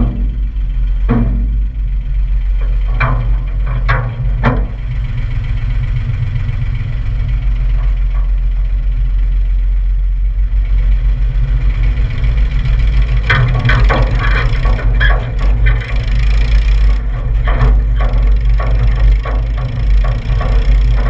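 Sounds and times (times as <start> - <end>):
sharp clatters: 0.0 - 9.7, 10.4 - 21.0
tractor diesel engine idling: 0.0 - 21.0.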